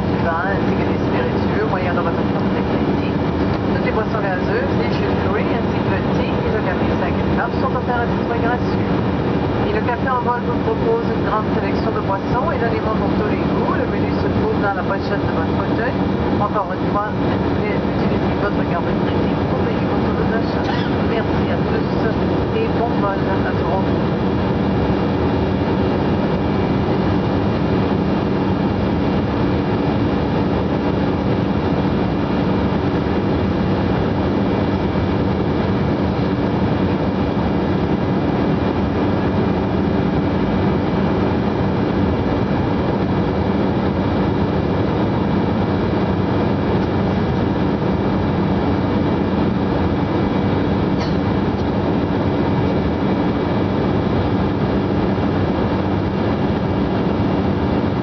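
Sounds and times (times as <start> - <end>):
constant hum tones: 0.0 - 58.0
jet engine roar and rushing air: 0.0 - 58.0.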